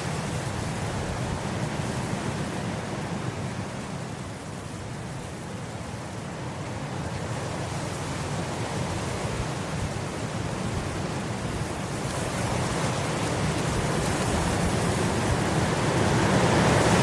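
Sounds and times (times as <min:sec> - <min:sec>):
wind blowing across grass: 0:00.0 - 0:17.0.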